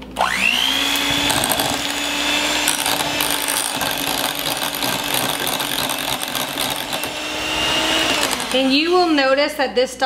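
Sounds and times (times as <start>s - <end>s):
electric hand mixer whining: 0.0s - 9.4s.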